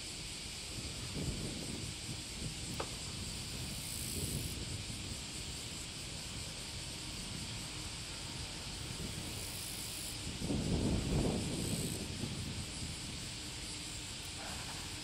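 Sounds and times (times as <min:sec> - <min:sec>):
wind buffeting microphone: 0:00.4 - 0:15.0.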